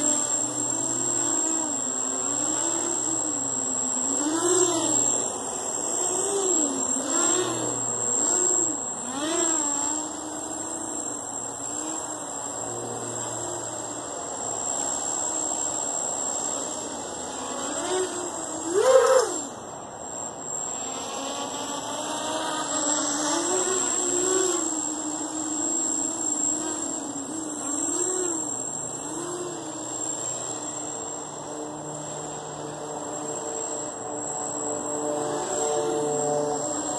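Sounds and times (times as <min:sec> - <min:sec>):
quadcopter motors buzzing: 0:00.0 - 0:36.9
thin high whine: 0:00.0 - 0:36.9.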